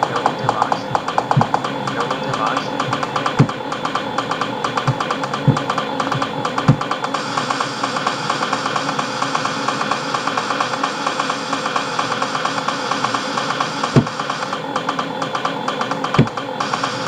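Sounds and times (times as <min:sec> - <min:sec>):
trance music with pulsing synth: 0:00.0 - 0:17.0.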